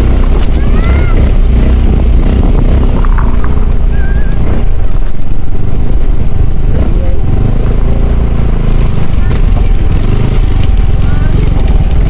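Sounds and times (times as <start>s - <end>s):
vehicle engine running: 0.0s - 12.0s
wind buffeting microphone: 0.0s - 12.0s.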